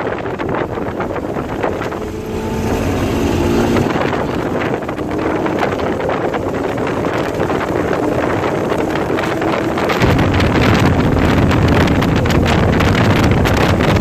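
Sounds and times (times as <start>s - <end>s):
car engine under load: 0.0s - 14.0s
wind noise in car cabin: 0.0s - 14.0s.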